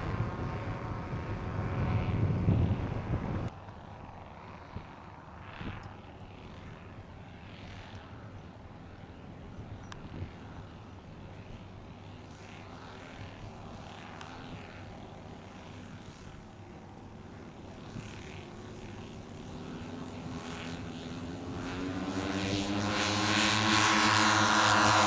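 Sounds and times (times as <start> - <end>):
model plane engines droning: 0.0 - 25.0.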